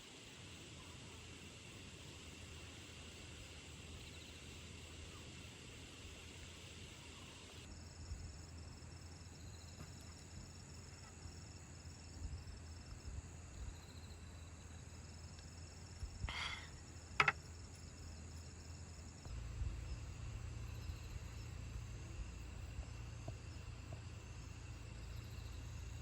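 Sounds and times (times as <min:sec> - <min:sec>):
insects chirring: 0:00.0 - 0:26.0
pulsing insect trills: 0:00.0 - 0:26.0.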